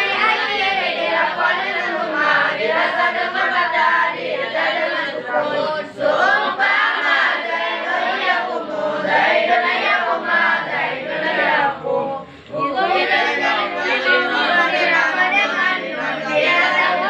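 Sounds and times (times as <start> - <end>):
boys chanting verses: 0.0 - 17.0.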